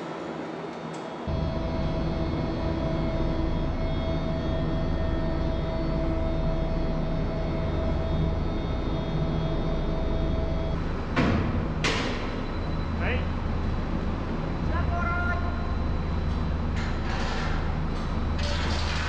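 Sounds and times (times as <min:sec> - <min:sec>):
heavy machinery drone: 0:00.0 - 0:19.0.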